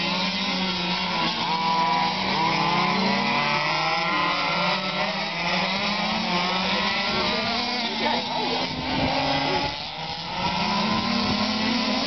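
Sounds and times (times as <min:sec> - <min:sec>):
small motors buzzing high pitched: 0:00.0 - 0:12.0.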